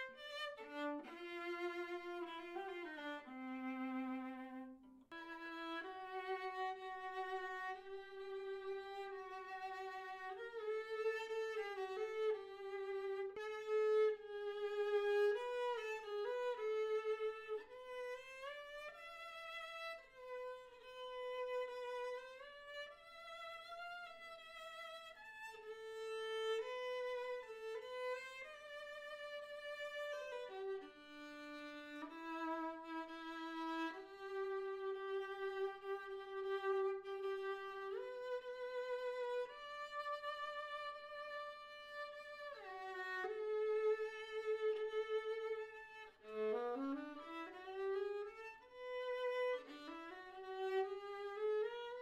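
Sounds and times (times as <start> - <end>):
solo violin slow melody: 0.0 - 52.0.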